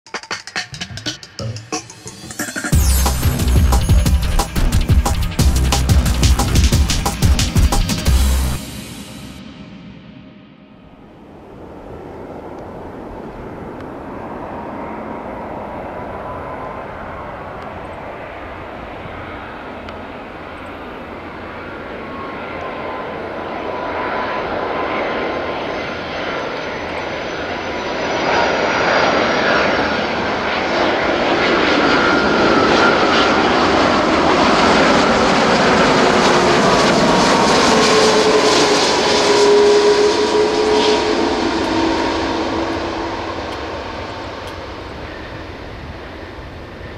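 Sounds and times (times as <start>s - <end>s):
jet engine whine and rumble: 7.2s - 46.9s.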